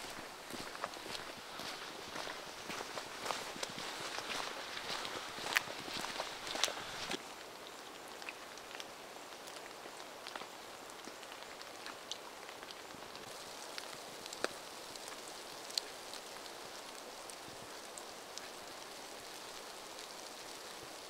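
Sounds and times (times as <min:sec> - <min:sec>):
soft hiss of rain: 0:00.0 - 0:21.0.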